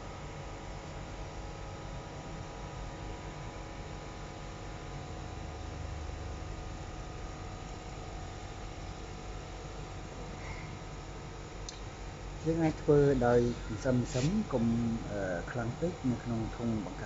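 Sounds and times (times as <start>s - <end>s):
underwater pump humming and hissing: 0.0s - 17.0s.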